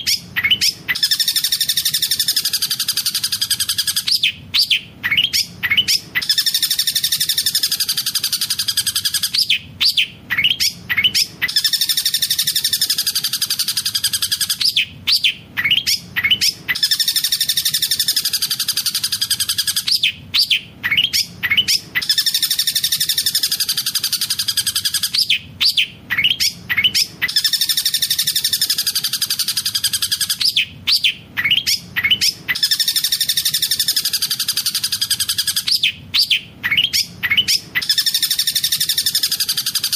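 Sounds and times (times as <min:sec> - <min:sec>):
bird chirps and rolling trill: 0:00.0 - 0:39.9.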